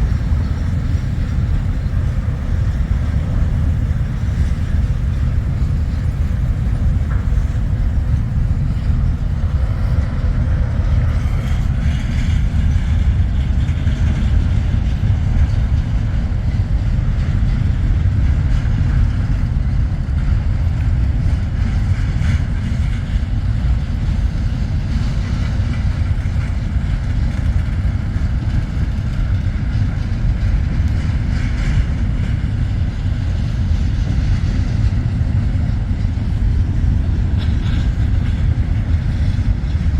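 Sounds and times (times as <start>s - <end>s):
heavy vehicle low rumble: 0.0s - 39.9s.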